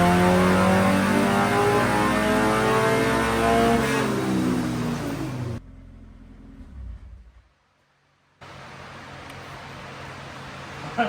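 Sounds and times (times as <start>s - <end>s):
car engine rumble on a dyno: 0.0s - 11.0s.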